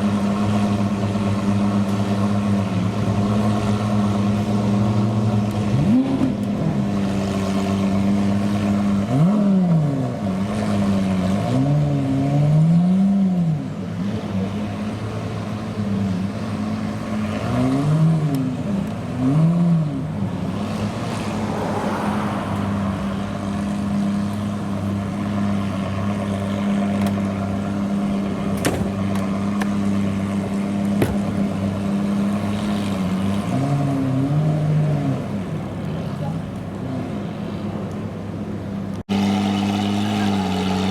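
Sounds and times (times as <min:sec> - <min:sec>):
supercar engine idling and revving: 0:00.0 - 0:40.9.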